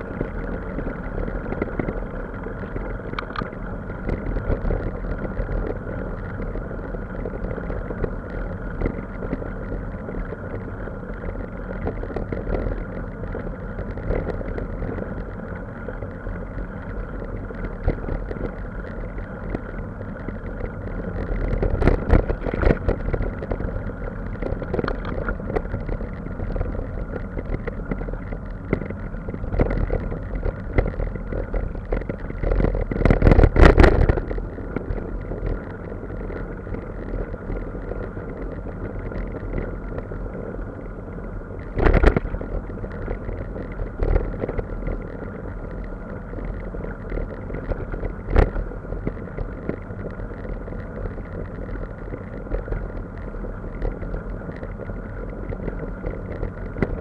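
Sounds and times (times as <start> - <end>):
motor running steadily: 0.0 - 57.0.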